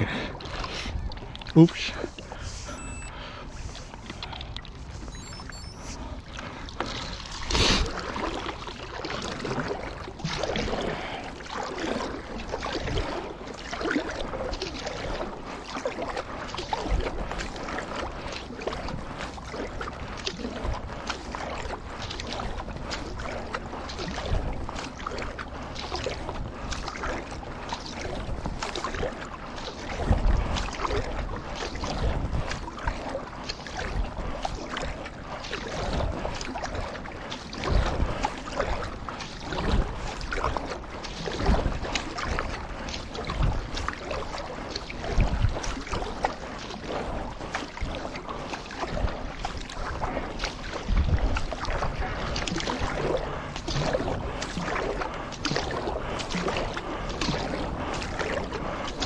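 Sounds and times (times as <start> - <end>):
paddle splashing water: 0.0 - 59.0.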